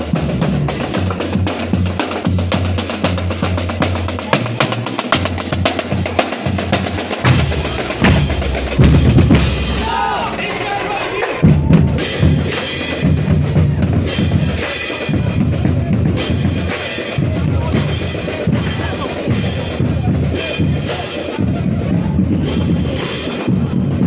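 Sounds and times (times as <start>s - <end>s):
bass drum marching beat: 0.0s - 24.0s.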